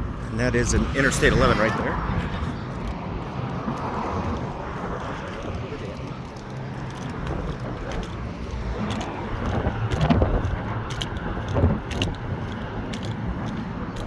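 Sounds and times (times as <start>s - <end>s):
rumble of road traffic: 0.0s - 14.0s
footsteps on bridge walkway: 2.0s - 14.0s.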